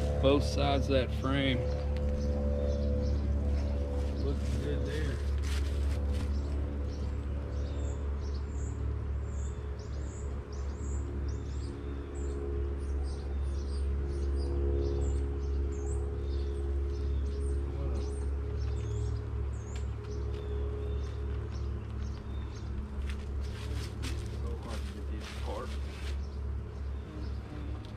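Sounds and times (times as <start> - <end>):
honeybees buzzing: 0.0 - 27.9
small birds chirping: 0.0 - 27.9.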